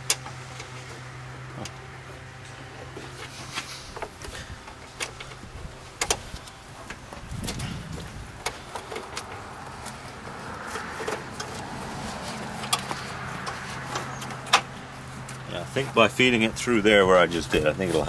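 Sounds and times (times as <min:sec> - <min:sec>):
steady low hum: 0:00.0 - 0:18.0
cable rustling and scraping: 0:00.1 - 0:18.0.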